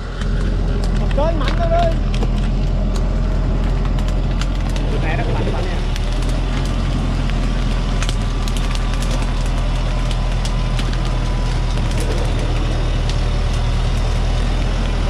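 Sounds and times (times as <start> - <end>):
dry bark and leaves crackling: 0.0 - 15.0
truck diesel engine running: 0.0 - 15.0.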